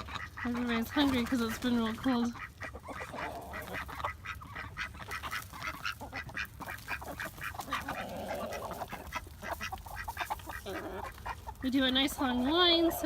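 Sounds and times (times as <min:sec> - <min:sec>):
birds pecking feed: 0:00.0 - 0:13.0
raspy duck quack: 0:00.0 - 0:13.0.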